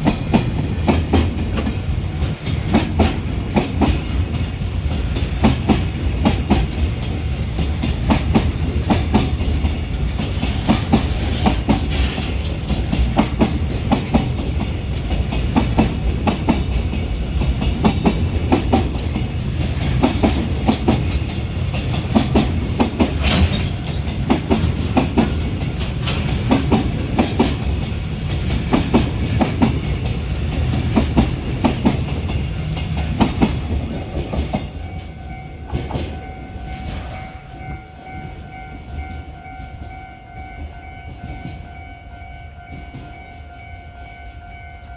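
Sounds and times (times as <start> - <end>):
train wheels clacking over rail joints: 0.0 - 40.1
train rolling rumble: 0.0 - 44.9.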